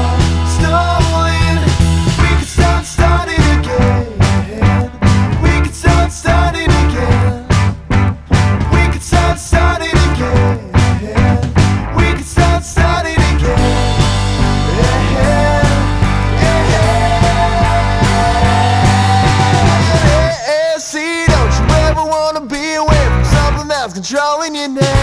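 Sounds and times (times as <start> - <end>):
rock music with drums bass guitar: 0.0 - 20.4, 21.3 - 24.0.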